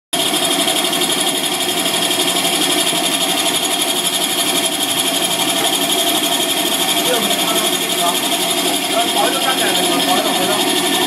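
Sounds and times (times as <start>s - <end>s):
coffee grinder running: 0.2s - 11.0s.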